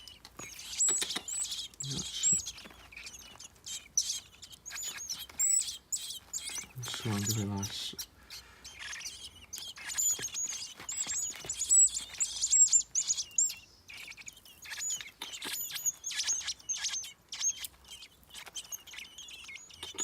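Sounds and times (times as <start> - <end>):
nestling birds chirping: 0.0 - 20.0.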